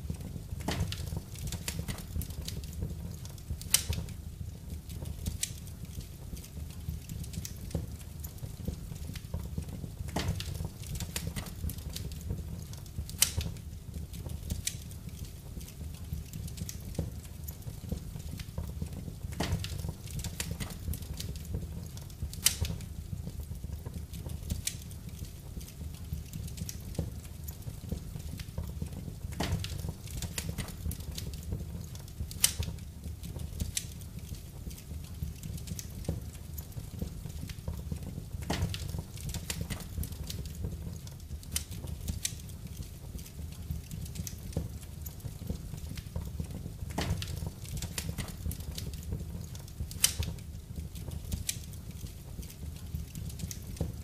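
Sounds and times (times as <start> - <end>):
low rumble of fire: 0.0 - 54.0
wood fire crackling: 0.0 - 54.0
loud fire pops: 0.1 - 54.0.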